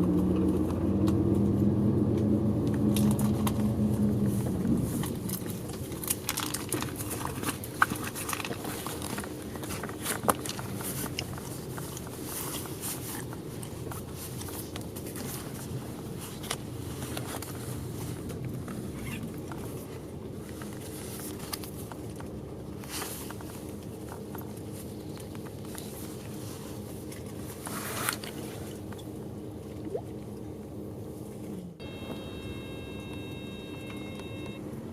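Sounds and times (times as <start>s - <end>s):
interior clicks and rattles: 0.0s - 29.3s
bus engine rumble: 0.0s - 34.9s.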